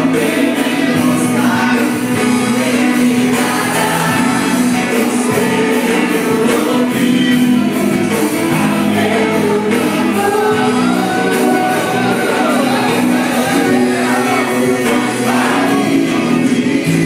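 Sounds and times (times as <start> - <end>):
band with steady beat: 0.0 - 17.0
group singing worship song: 0.0 - 17.0.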